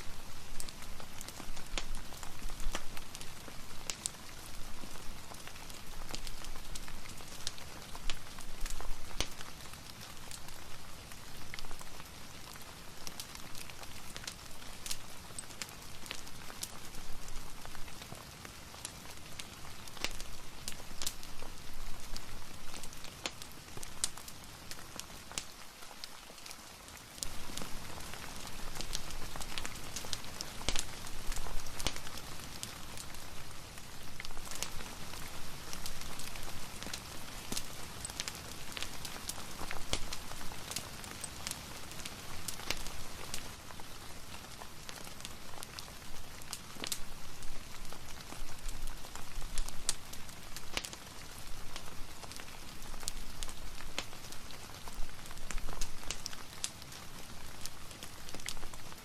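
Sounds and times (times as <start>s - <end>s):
fireplace crackling: 0.0s - 59.0s
rain pattering: 0.0s - 59.0s.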